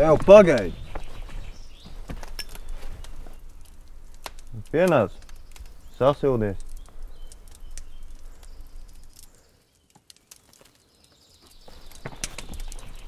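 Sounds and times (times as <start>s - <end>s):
horse hooves clip-clopping: 0.0s - 9.3s, 9.9s - 13.0s
campfire crackling: 0.0s - 13.0s.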